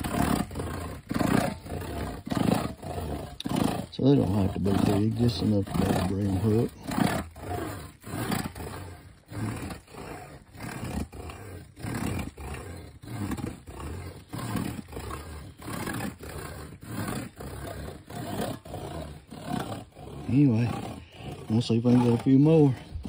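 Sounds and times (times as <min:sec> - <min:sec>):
plow point rasping on wood stub: 0:00.0 - 0:23.0.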